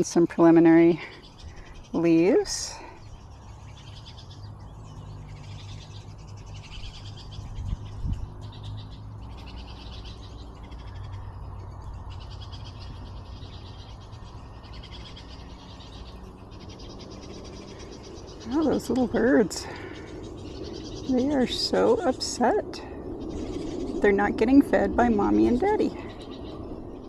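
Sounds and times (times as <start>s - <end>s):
fledgling birds begging: 0.0s - 27.0s
steady low rumble: 0.0s - 27.0s.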